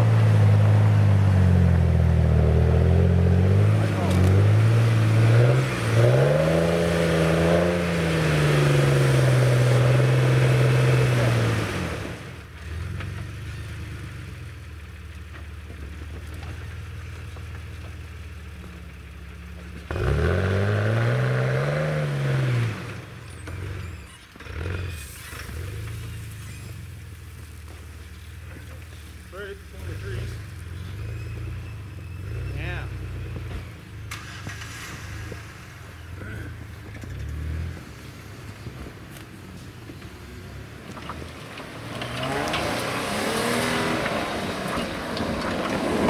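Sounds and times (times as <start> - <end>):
engine revving: 0.0 - 14.4, 19.8 - 27.4, 29.3 - 39.2, 40.9 - 46.0.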